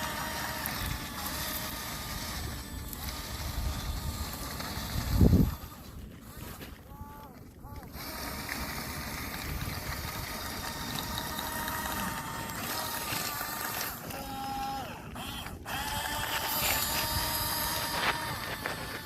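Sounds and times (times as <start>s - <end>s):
electric motors whining: 0.0s - 19.0s
gritty clatter: 0.0s - 19.0s.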